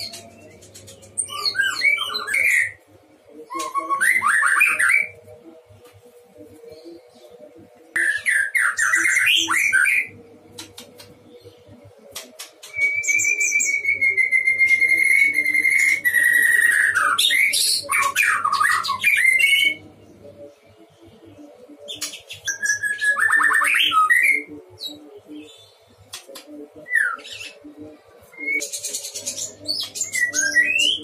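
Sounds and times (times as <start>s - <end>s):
bird singing: 0.0s - 5.2s, 6.6s - 25.9s, 26.8s - 31.0s.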